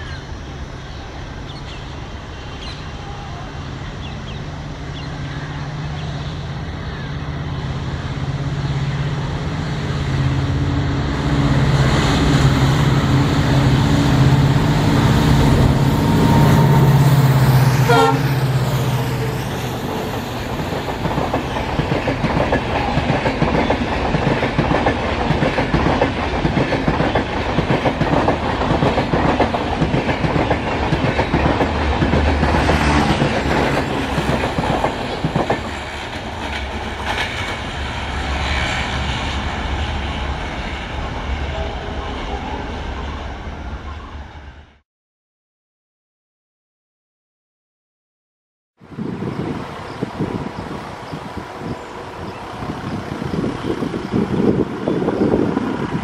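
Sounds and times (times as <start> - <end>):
diesel locomotive engine: 0.0 - 44.8, 48.8 - 56.0.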